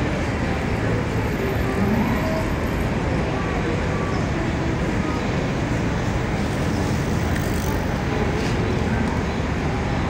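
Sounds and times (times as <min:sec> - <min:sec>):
city street traffic: 0:00.0 - 0:10.0.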